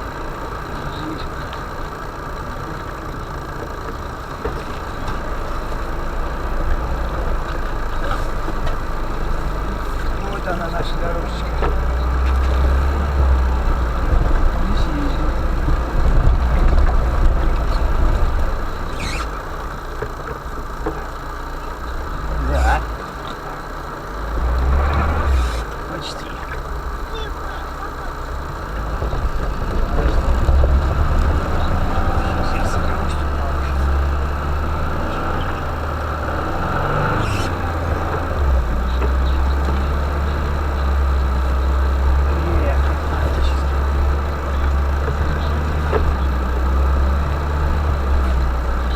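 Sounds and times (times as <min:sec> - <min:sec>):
vehicle engine running at low revs: 0:00.0 - 0:48.9.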